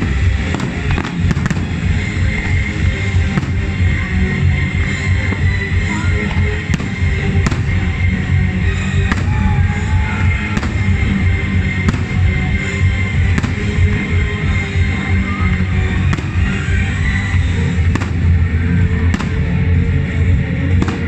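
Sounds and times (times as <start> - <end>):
loud music: 0.0 - 21.0.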